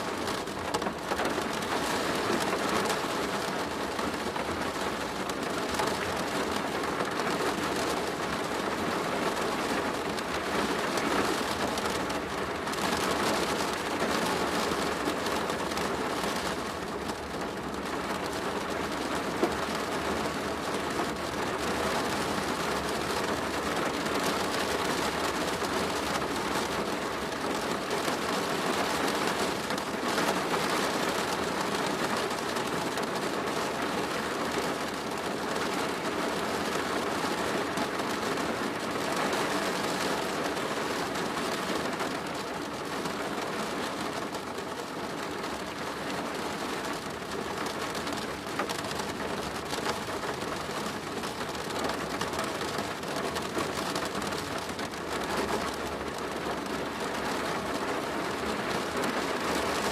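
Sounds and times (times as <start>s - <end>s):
rain drumming on plastic roof: 0.0s - 59.9s.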